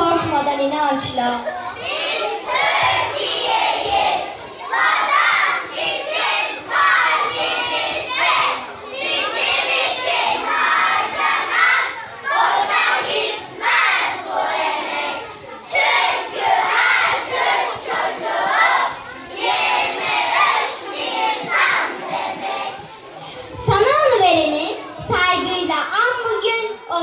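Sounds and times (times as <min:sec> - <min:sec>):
children chanting in unison: 0:01.6 - 0:23.6.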